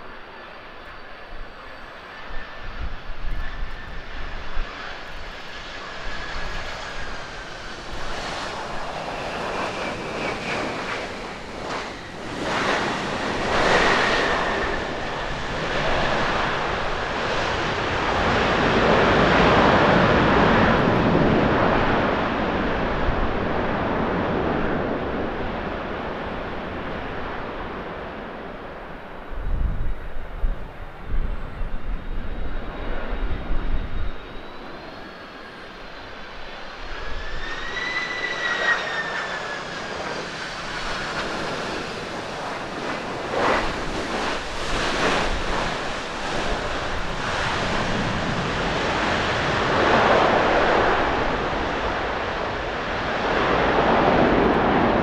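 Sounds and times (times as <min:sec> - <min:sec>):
jet engines whining: 0:00.0 - 0:55.0
rushing jet engine roar: 0:00.0 - 0:55.0.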